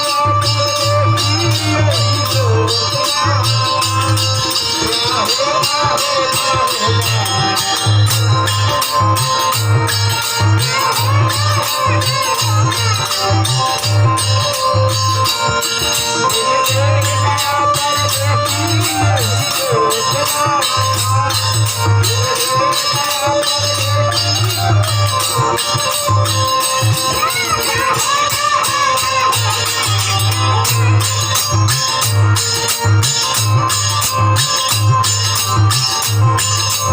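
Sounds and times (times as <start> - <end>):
jingling percussion beat: 0.0 - 36.9.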